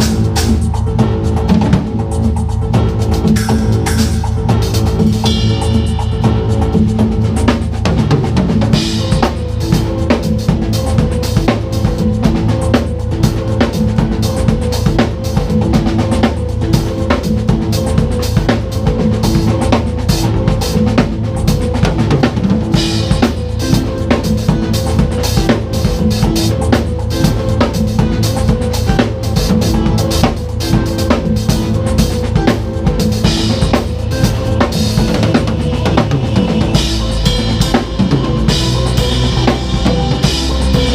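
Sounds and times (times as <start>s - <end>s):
backing track with bass: 0.0s - 40.9s
drum kit groove: 0.0s - 40.9s.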